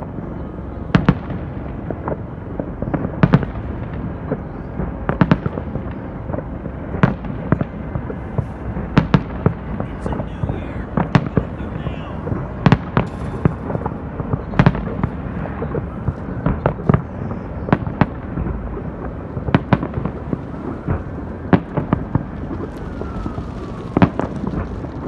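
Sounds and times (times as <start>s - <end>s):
fireworks bangs and booms: 0.0s - 25.0s.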